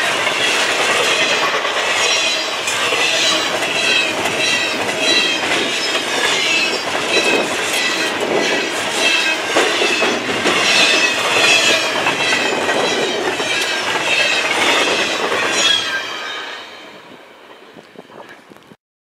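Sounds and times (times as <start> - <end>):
wheels clattering over rail joints: 0.0 - 18.5
freight train passing: 0.0 - 18.6
wheel squeal: 0.4 - 17.0.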